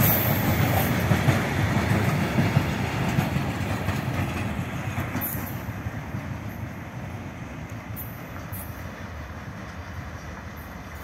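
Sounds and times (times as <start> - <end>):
freight train wheels on rail: 0.0 - 11.0.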